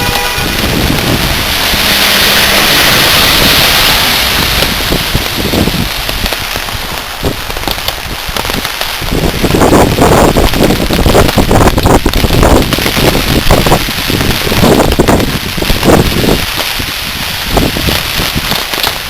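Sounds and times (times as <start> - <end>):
low rumble: 0.0 - 16.6
rain falling on a street: 0.0 - 19.0.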